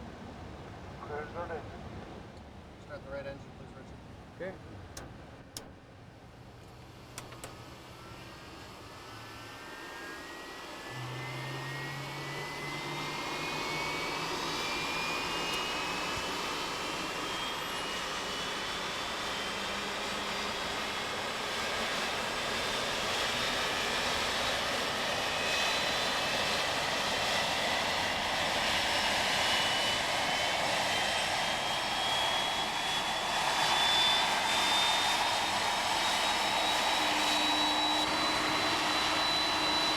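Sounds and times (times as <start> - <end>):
jet engine whine rising: 6.9 - 39.9.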